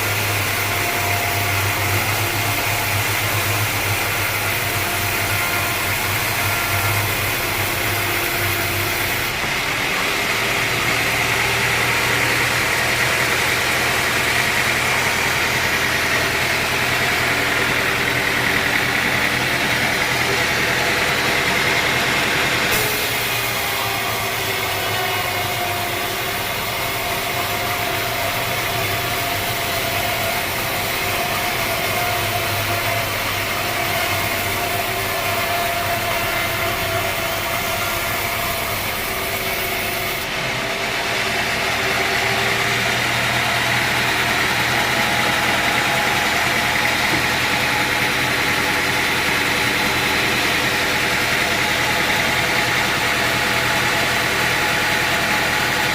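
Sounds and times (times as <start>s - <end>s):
sawmill machinery drone: 0.0s - 55.9s.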